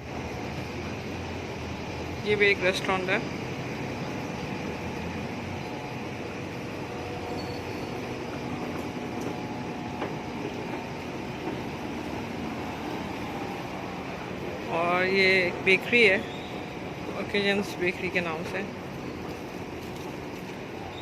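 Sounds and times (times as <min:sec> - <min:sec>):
street traffic and machinery hum: 0:00.0 - 0:21.0.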